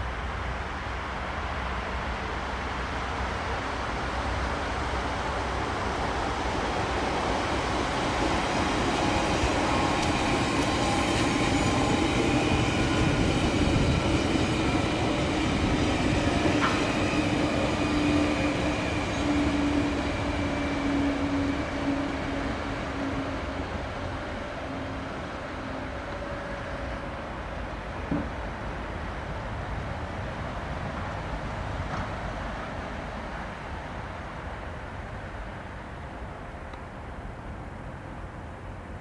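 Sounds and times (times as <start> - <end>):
electric train passing by: 0.0 - 39.0.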